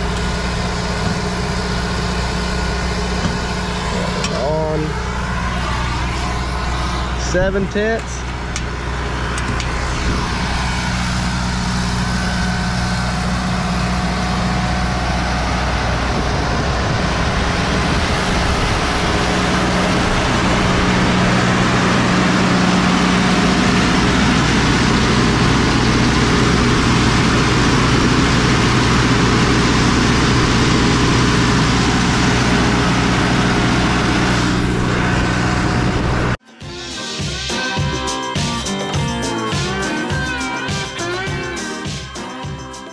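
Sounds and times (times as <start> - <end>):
pump engine humming: 0.0 - 42.9.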